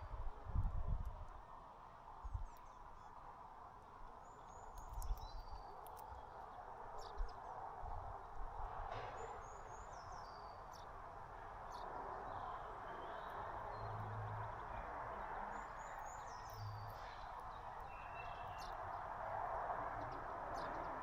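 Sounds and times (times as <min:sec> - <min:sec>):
songbirds chirping: 0:02.2 - 0:21.0.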